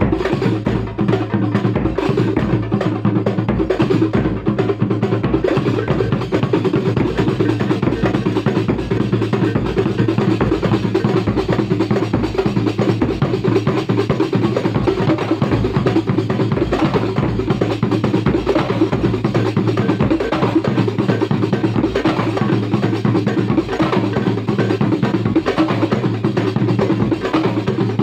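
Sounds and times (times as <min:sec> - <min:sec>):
deep bass drum beats: 0:00.0 - 0:28.0
hand-struck frame drums: 0:00.0 - 0:28.0.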